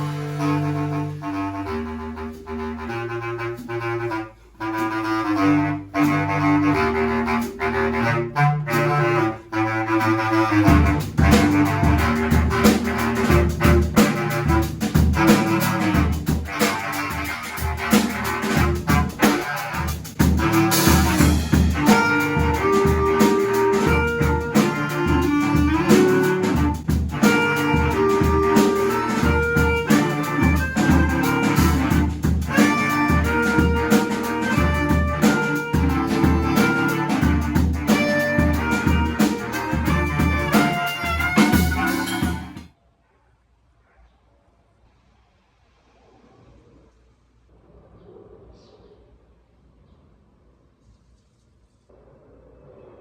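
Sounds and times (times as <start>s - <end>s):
drum kit: 0.0s - 42.7s
wind instruments playing melody: 0.0s - 42.7s.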